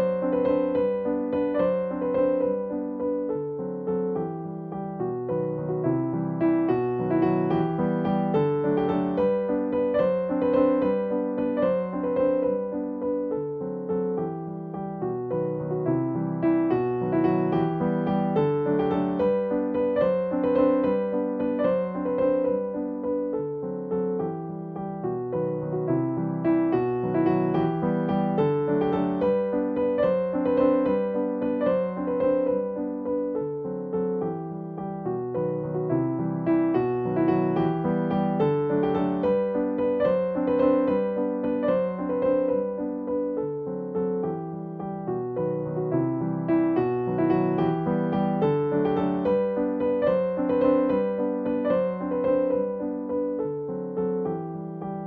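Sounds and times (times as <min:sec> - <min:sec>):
gentle piano-like keyboard tune: 0:00.0 - 0:55.0.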